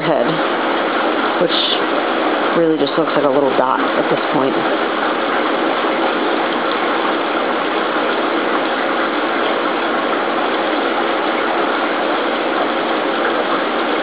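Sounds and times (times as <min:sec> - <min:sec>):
steady machine noise: 0:00.0 - 0:14.0.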